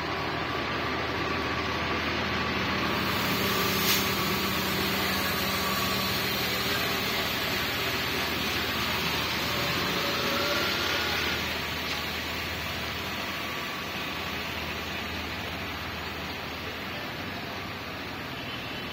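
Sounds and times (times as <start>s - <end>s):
bus diesel engine droning: 0.0s - 18.9s.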